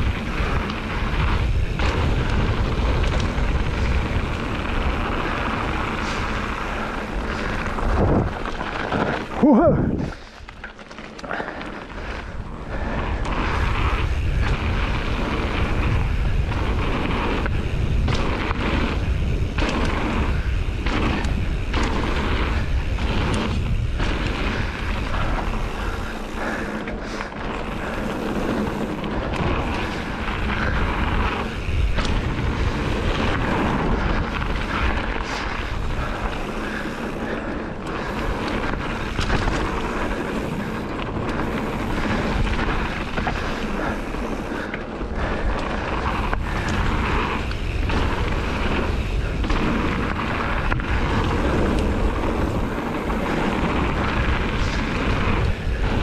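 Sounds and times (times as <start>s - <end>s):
bike knocking and rattling: 0.0s - 56.0s
tyres rolling on dirt: 0.0s - 56.0s
wind rumbling on microphone: 0.0s - 56.0s.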